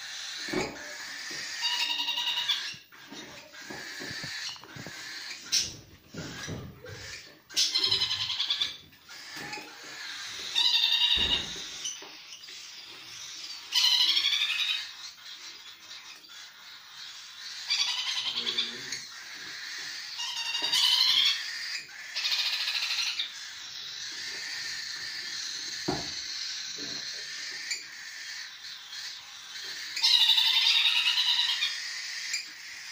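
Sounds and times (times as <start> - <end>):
young parrots begging calls: 0.0 - 32.9.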